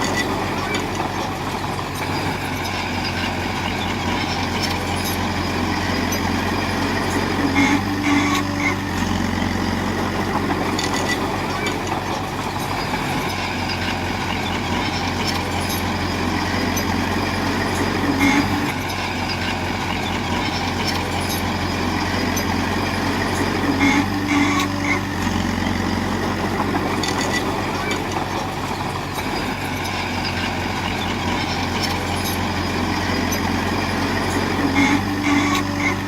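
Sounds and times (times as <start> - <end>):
heavy diesel machinery running: 0.0 - 36.0.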